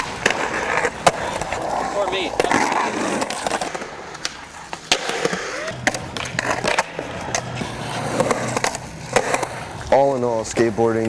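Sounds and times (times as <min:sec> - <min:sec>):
skateboard boards clacking: 0:00.0 - 0:11.0
skateboard wheels rumbling: 0:00.0 - 0:11.0.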